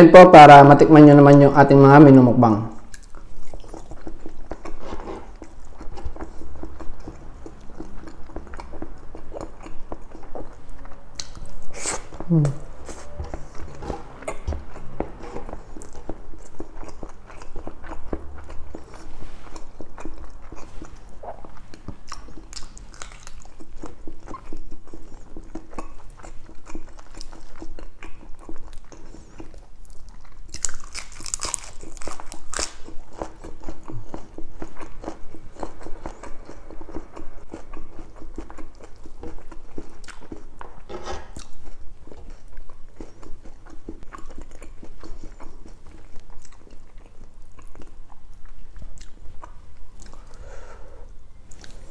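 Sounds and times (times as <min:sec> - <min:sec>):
person chewing food: 0:02.8 - 0:51.9.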